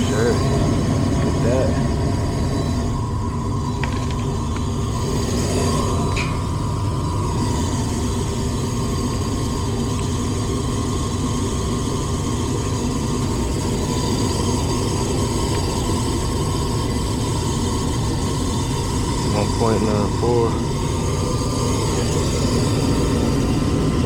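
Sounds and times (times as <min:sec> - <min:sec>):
furnace inducer motor humming: 0:00.0 - 0:24.0.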